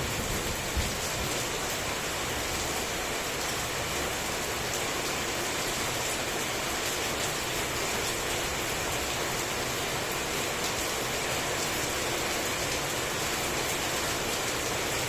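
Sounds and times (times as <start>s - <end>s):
heavy rain falling: 0.0s - 15.0s
raindrops pattering on surfaces: 0.0s - 15.0s.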